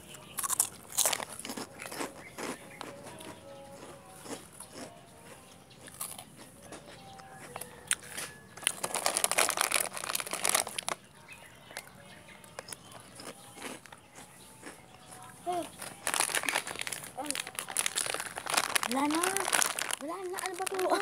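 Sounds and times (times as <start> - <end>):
person chewing crunchy food: 0.0 - 11.0, 12.4 - 21.0.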